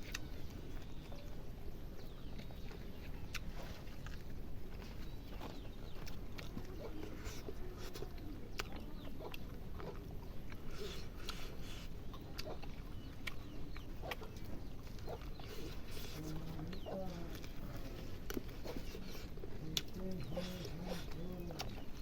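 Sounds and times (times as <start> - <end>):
chewing and smacking: 0.0 - 22.0.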